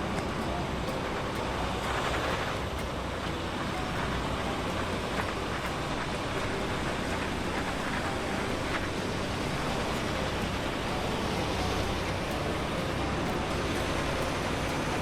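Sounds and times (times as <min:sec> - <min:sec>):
large vehicle rumbling: 0:00.0 - 0:15.0.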